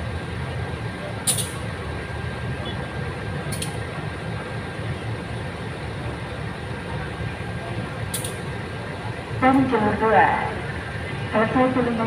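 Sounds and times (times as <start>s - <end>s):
diesel locomotive rumbling past: 0.0s - 12.0s.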